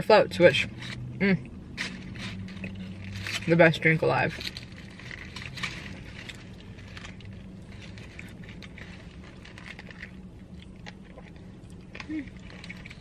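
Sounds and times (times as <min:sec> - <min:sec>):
low hum: 0:00.0 - 0:13.0
chewing and crunching: 0:00.4 - 0:13.0.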